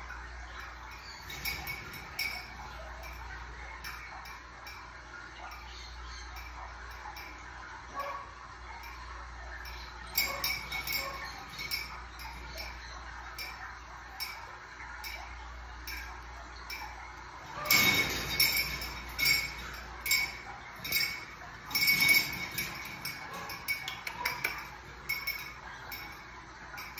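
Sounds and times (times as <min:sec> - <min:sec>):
light metallic clinks of wire cage: 0:00.0 - 0:26.9.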